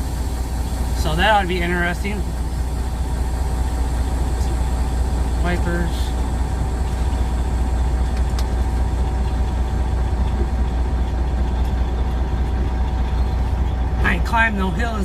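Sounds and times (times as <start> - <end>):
diesel truck engine humming: 0.0 - 15.0.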